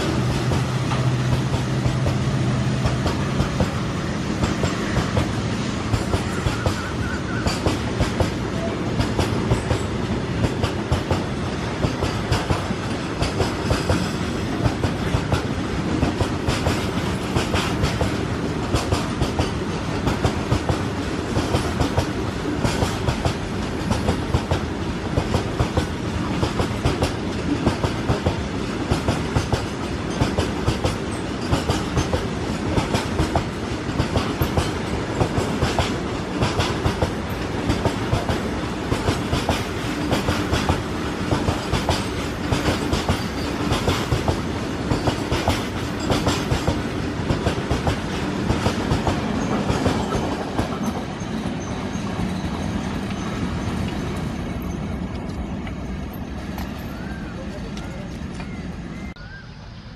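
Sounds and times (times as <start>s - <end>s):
train wheels clicking on rail joints: 0.0s - 59.1s
diesel locomotive drone: 0.0s - 59.9s.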